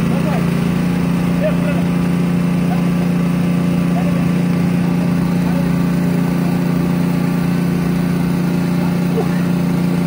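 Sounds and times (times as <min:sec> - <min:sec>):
small engine humming: 0:00.0 - 0:10.0.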